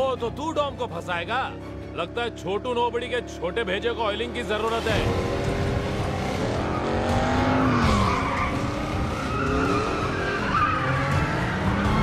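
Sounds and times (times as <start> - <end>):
racing car engines revving: 1.4 - 12.0.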